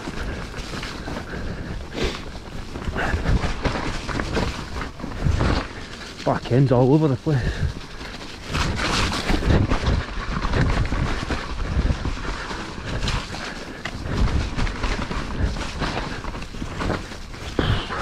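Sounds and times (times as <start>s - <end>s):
bike knocking and rattling: 0.0s - 18.0s.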